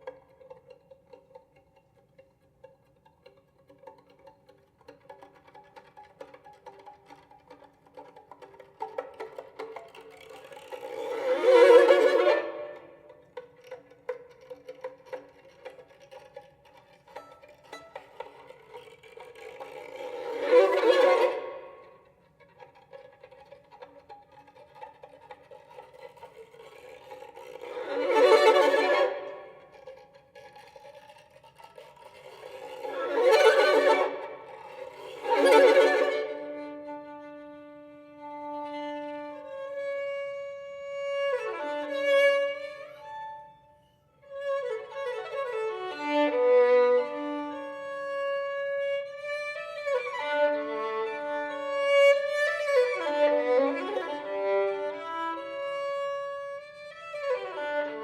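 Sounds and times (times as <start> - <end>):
solo violin playing: 4.9 - 58.0.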